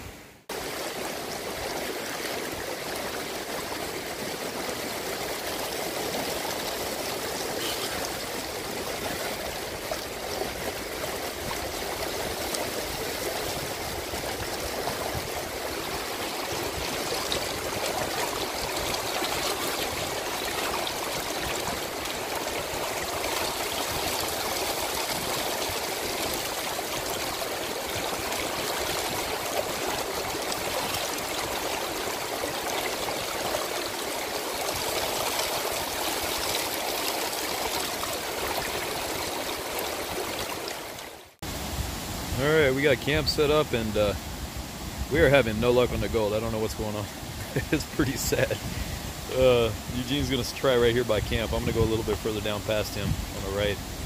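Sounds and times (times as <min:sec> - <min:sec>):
creek water rushing through sluice: 0:00.0 - 0:54.0.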